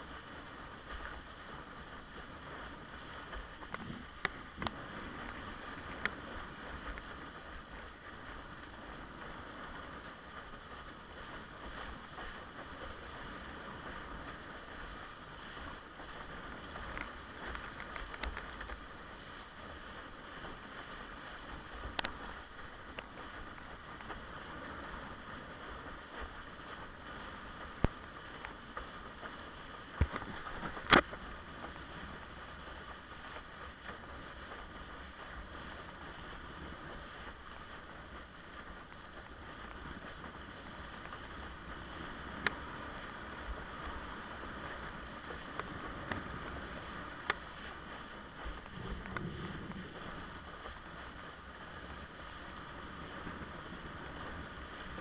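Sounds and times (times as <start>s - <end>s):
water rushing: 0.0s - 55.0s
wind: 0.0s - 55.0s.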